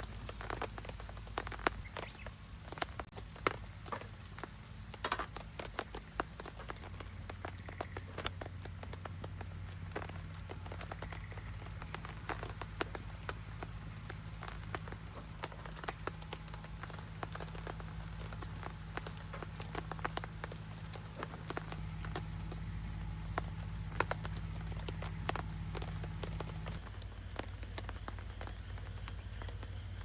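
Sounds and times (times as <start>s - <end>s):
rain falling: 0.0s - 30.0s
wood fire crackling and popping: 0.0s - 30.0s.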